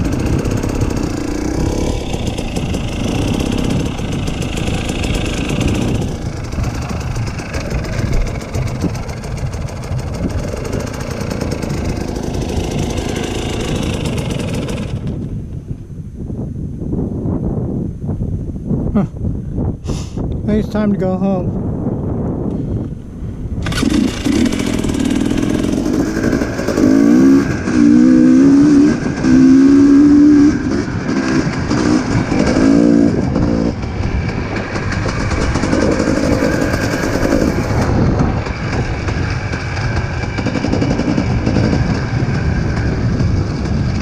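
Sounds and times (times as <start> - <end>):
dirt bike engine revving: 0.0 - 15.4, 23.6 - 44.0.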